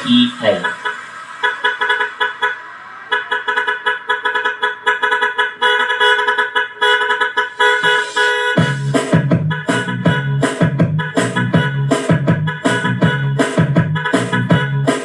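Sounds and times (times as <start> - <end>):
pulsing truck horn sample: 0.0 - 15.0.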